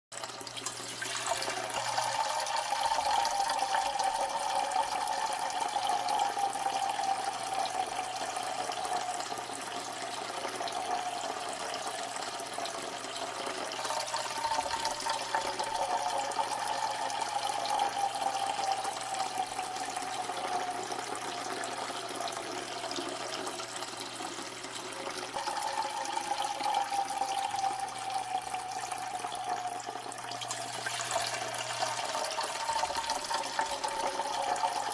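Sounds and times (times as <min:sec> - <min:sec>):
liquid pouring into water: 0:00.2 - 0:34.9.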